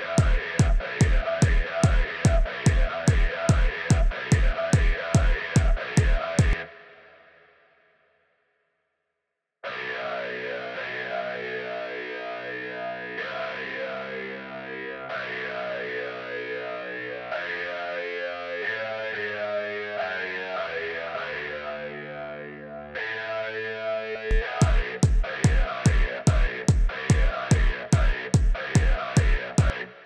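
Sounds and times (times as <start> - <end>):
electric guitar with chorus effect: 0.0 - 7.1, 9.6 - 30.0.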